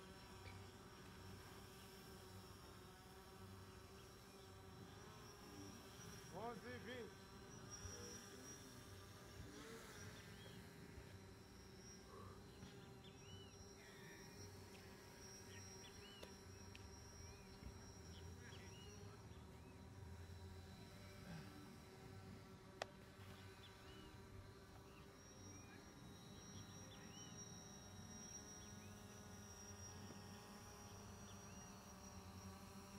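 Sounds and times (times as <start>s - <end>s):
steady thin buzz: 0.0s - 32.9s.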